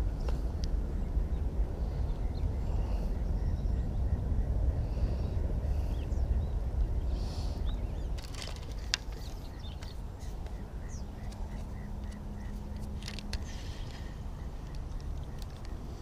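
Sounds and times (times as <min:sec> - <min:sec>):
wind rumble on microphone: 0:00.0 - 0:16.0
small birds chirping: 0:00.2 - 0:16.0.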